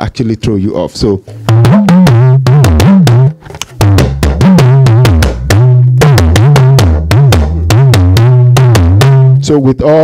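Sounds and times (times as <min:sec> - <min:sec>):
talking drum pitch-bending strokes: 0:01.4 - 0:09.7.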